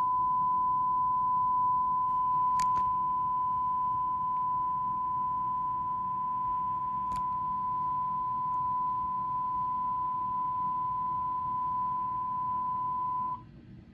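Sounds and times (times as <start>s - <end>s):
steady beep tone: 0.0s - 13.4s.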